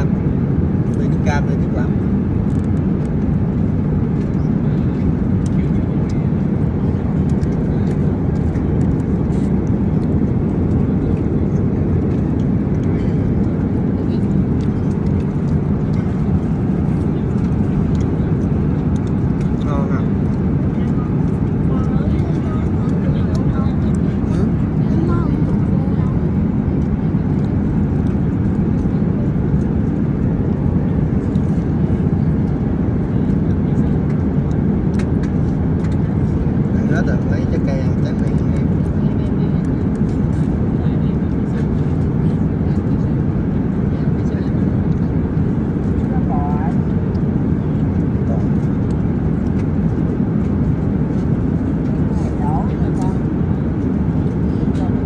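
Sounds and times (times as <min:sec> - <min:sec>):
low rumble of jet engines: 0:00.0 - 0:55.0.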